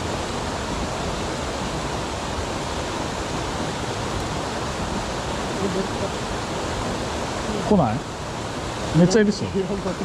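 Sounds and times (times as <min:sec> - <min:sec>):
rushing mountain stream: 0:00.0 - 0:10.0.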